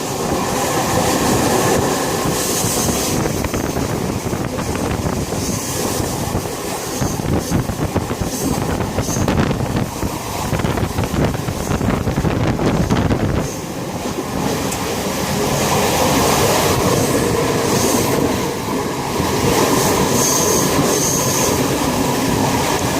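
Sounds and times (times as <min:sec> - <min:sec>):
train rumbling on rails: 0:00.0 - 0:22.9.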